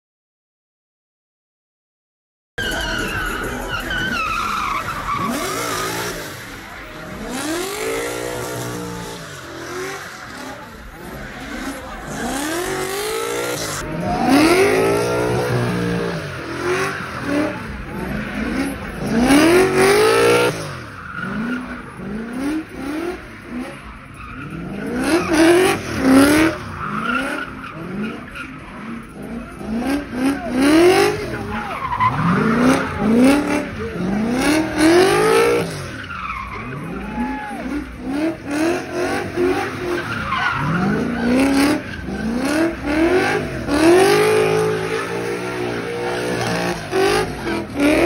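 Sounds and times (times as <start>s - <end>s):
tyres skidding on pavement: 2.6s - 48.0s
car engine revving hard: 3.4s - 48.0s.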